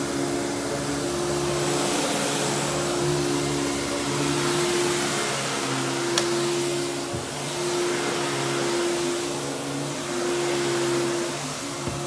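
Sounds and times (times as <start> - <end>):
vacuum cleaner motor running: 0.0 - 12.0.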